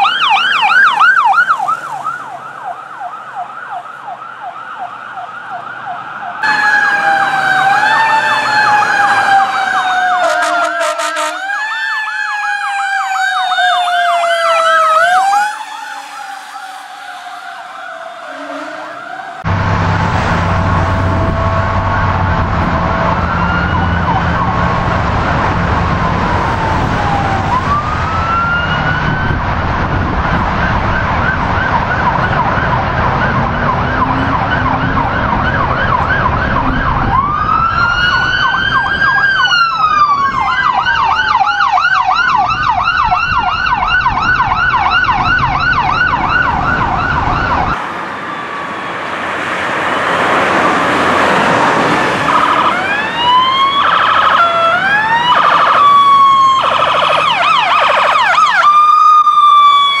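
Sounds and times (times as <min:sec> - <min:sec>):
emergency siren yelping and wailing: 0:00.0 - 1:00.0.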